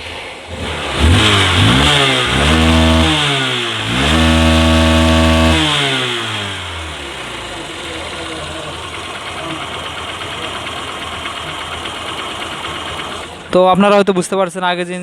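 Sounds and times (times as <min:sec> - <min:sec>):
motorcycle engine revving: 0:00.0 - 0:13.6
motorcycle engine idling: 0:00.0 - 0:14.0.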